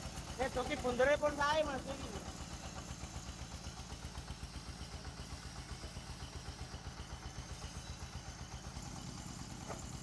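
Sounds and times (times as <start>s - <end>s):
engine thudding rapidly: 0.0s - 10.0s.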